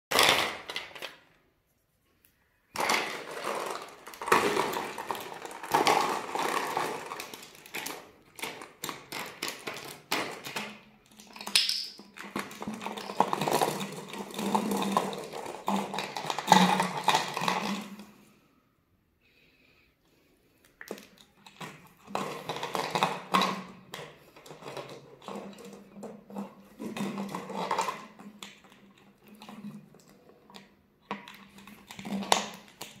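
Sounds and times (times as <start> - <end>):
marbles rattling in plastic bottle: 0.1 - 1.2, 2.7 - 18.1, 20.8 - 33.0
plastic bottle crinkling: 2.6 - 18.2, 20.6 - 33.0.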